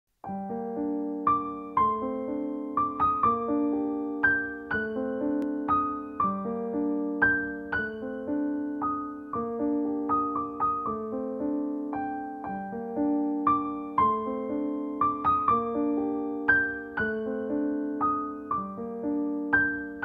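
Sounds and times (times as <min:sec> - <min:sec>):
piano notes and chords: 0:00.2 - 0:20.0.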